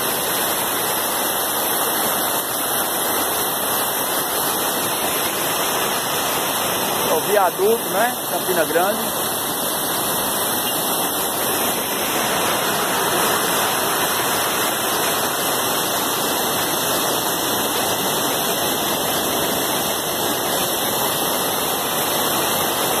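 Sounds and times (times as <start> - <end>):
rush of water: 0.0 - 23.0.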